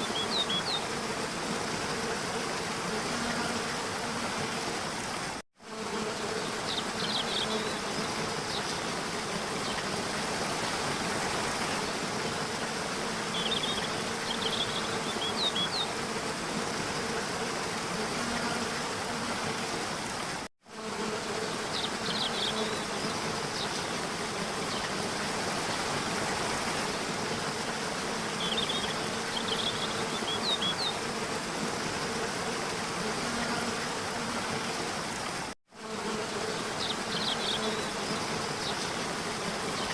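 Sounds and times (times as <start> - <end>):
even hiss: 0.0 - 39.9
flying insects buzzing: 0.0 - 39.9.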